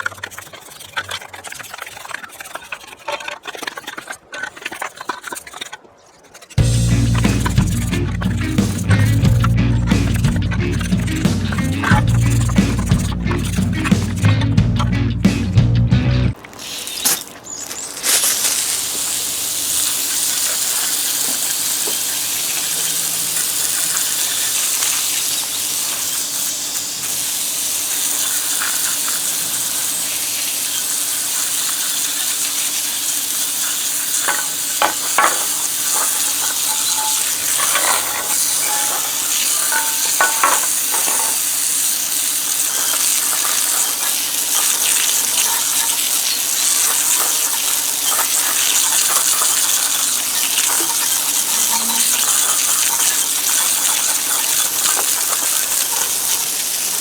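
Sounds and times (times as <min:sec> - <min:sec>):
steady hiss: 0:06.6 - 0:14.4, 0:16.3 - 0:57.0.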